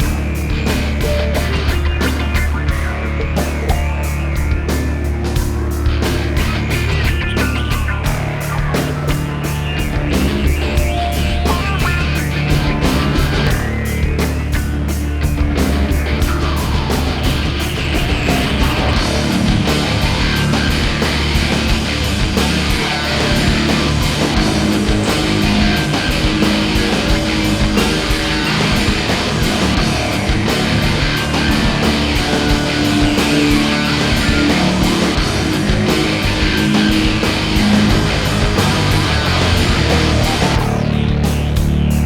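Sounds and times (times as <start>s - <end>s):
heavy rock music: 0.0s - 42.0s.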